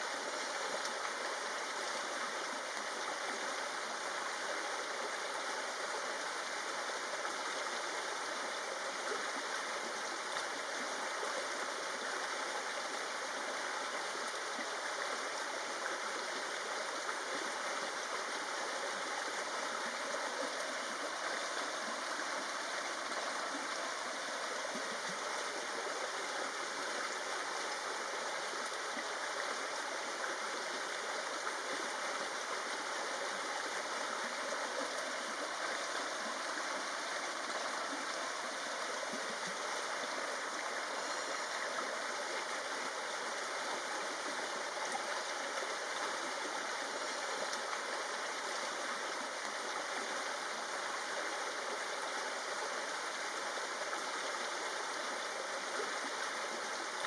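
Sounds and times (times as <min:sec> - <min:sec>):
forest stream rushing and trickling: 0:00.0 - 0:57.0.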